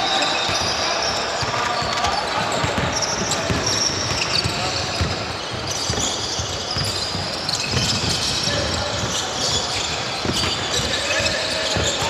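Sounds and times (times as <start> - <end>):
basketball bouncing on a court: 0.4 - 12.0.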